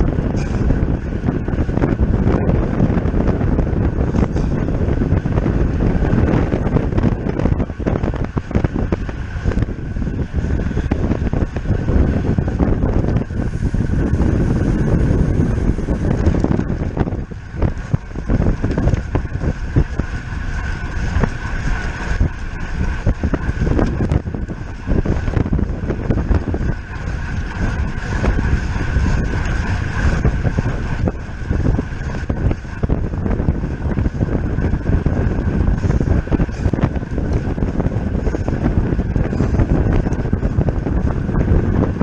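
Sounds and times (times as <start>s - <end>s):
bicycle whir: 0.0s - 42.0s
wind on microphone: 0.0s - 42.0s.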